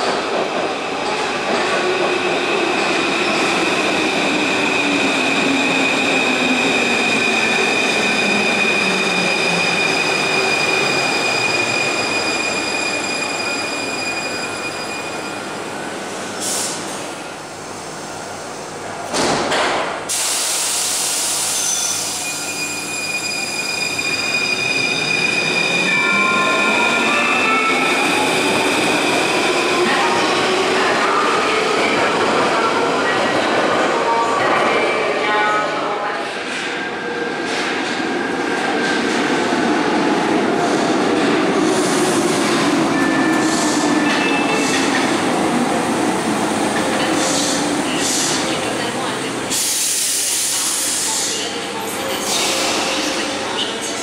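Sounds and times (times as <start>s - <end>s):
high squeal of train: 0.0s - 19.1s, 19.9s - 54.0s.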